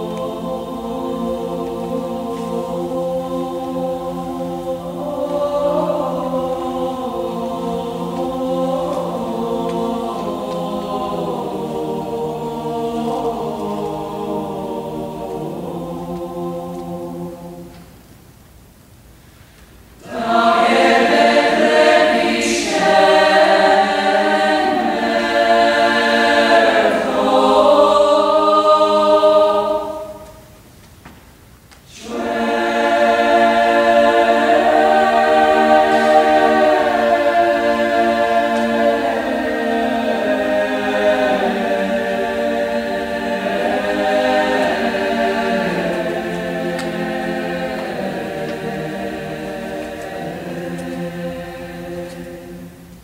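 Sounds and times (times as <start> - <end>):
choir singing unaccompanied chant: 0.0 - 18.1, 20.0 - 30.7, 31.9 - 53.0.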